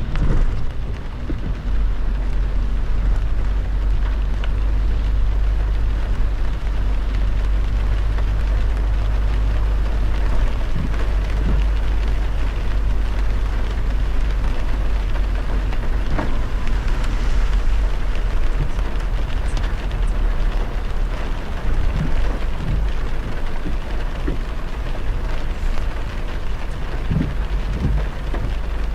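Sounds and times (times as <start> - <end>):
heavy rain striking a car: 0.0 - 28.9
road and engine drone: 0.0 - 28.9.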